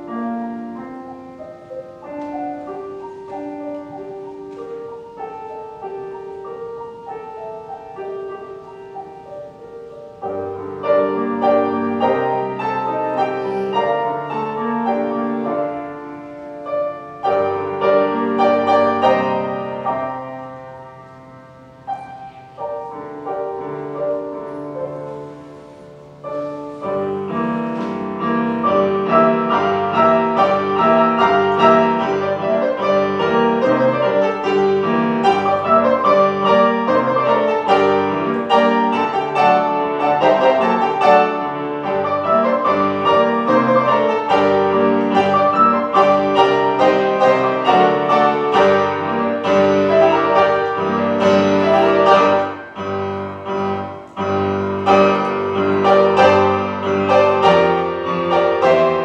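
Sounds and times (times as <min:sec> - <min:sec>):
grand piano playing: 0:00.0 - 0:59.0.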